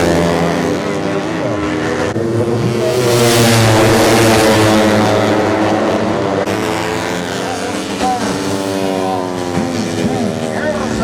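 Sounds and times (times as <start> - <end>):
race motorcycles at high revs: 0.0 - 11.0.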